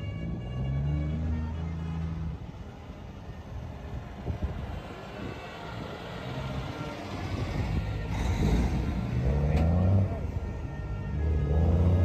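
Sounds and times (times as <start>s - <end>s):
heavy trucks driving past: 0.0s - 12.0s.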